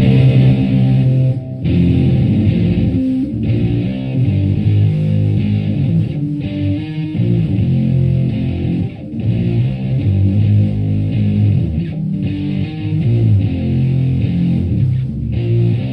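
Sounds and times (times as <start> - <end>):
fuzzed electric guitar chords: 0.0 - 15.9.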